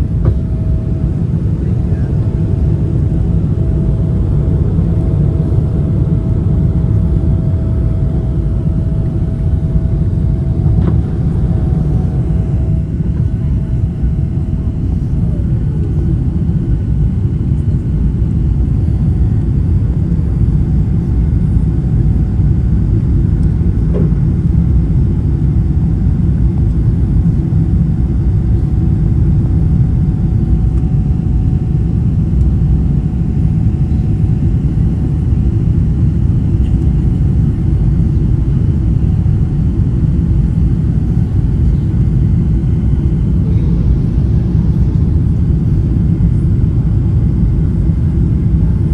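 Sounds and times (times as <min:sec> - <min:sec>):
faint steady whine: 0:00.0 - 0:48.9
jet engine and airflow rumble: 0:00.0 - 0:48.9.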